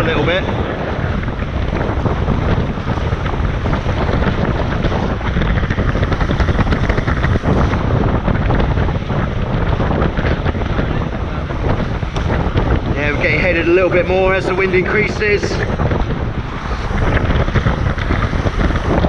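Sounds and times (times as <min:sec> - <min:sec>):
water rushing along hulls: 0:00.0 - 0:19.0
wind buffeting microphone: 0:00.0 - 0:19.0.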